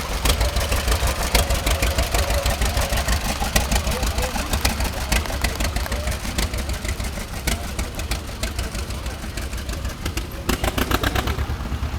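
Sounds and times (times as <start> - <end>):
exhaust leak ticks: 0.0 - 11.8
tractor engine running: 0.0 - 11.9.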